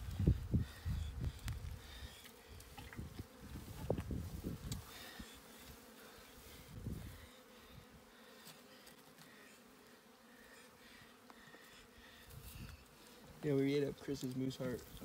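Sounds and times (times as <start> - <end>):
insect buzzing: 0.0 - 13.8.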